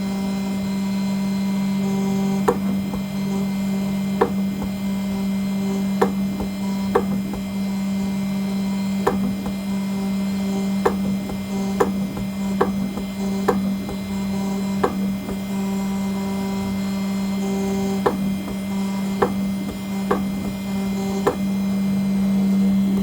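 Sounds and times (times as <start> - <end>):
engraving machine spindle hum: 0.0 - 23.0.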